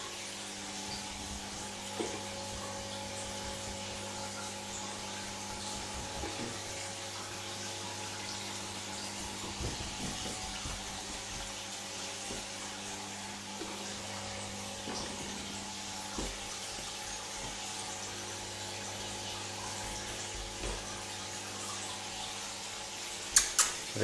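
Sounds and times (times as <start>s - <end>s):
aquarium water bubbling: 0.0s - 24.0s.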